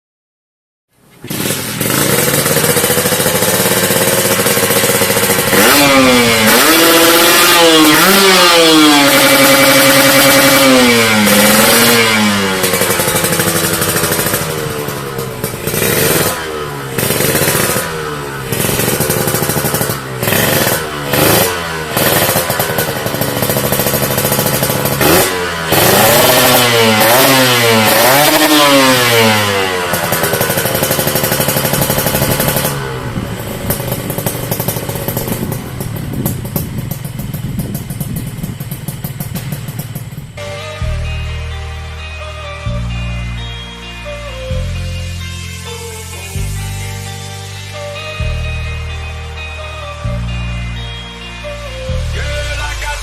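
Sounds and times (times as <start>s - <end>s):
motorcycle engine revving: 1.0s - 53.0s.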